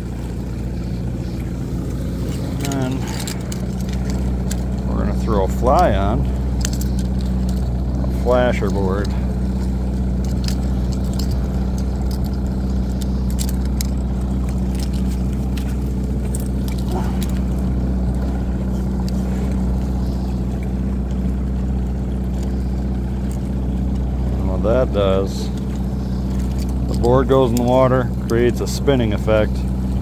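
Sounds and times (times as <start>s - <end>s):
boat motor droning: 0.0s - 30.0s
fishing tackle clicks: 0.8s - 24.4s, 25.5s - 29.0s.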